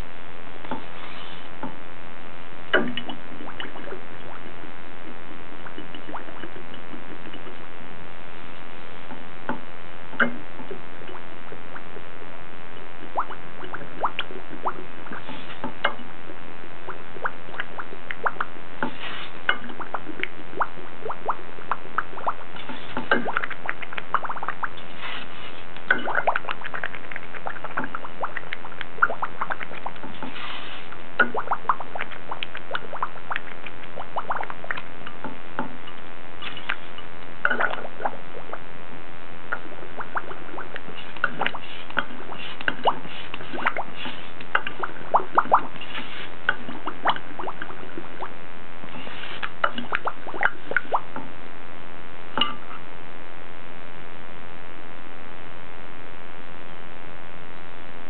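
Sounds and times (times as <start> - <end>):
steady hiss: 0.0 - 47.1, 47.8 - 49.9
clicks and wet pops: 0.0 - 51.5, 52.2 - 52.9.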